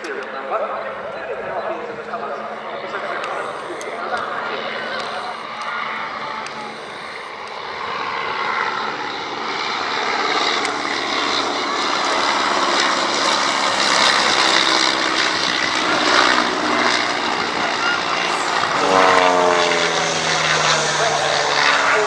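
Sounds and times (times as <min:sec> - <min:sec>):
aircraft engine flying past: 0:00.0 - 0:22.0.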